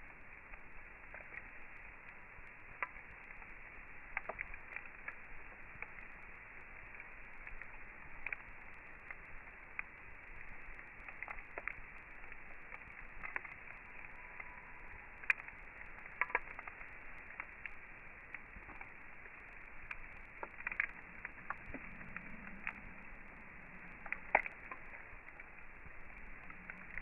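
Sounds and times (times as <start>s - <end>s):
campfire crackling: 0.0s - 27.0s
fire popping and snapping: 0.0s - 27.0s
low fire hiss: 0.0s - 27.0s.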